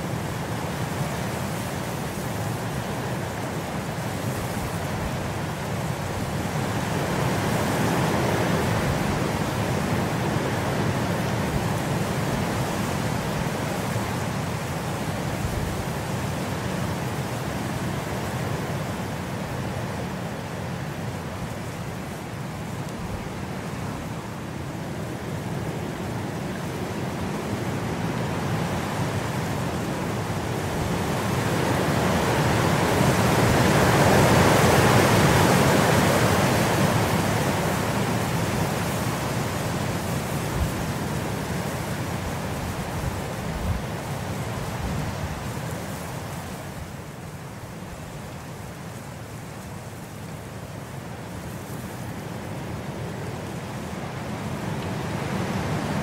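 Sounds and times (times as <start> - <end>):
rain rushing: 0.0 - 56.0.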